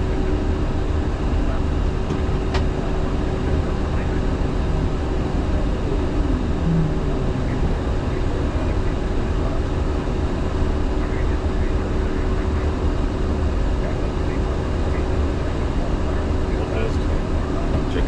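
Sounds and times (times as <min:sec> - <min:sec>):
jet engine hum: 0:00.0 - 0:18.0.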